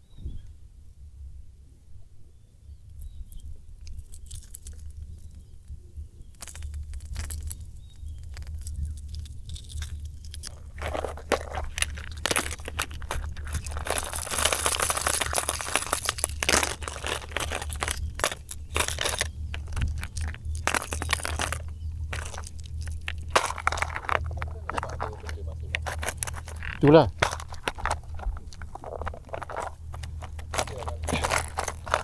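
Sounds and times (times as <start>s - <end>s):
plastic lures clicking and rattling: 2.9s - 32.0s.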